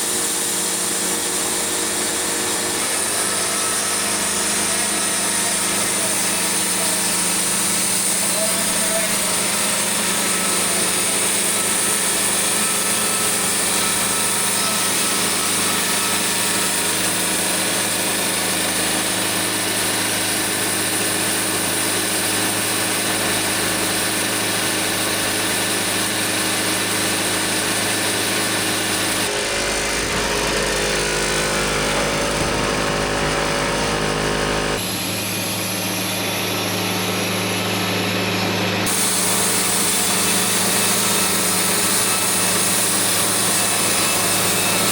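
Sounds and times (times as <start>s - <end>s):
small engine running: 0.0s - 44.9s.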